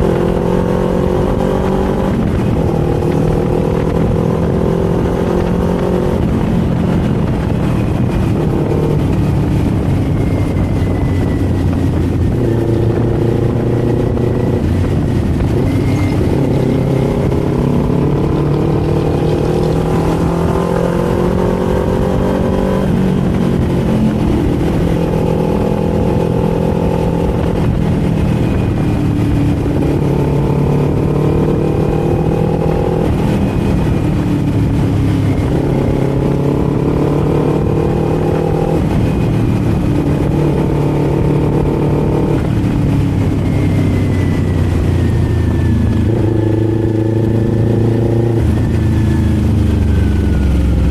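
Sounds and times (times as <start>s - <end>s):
motorcycle engine accelerating: 0.0s - 50.9s
wind and tyre noise: 0.0s - 50.9s.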